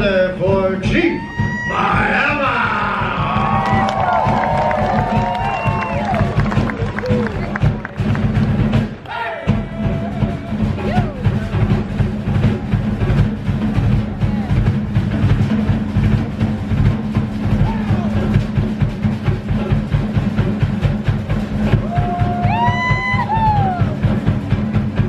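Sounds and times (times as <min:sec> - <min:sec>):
fast drumming: 0:00.0 - 0:25.0.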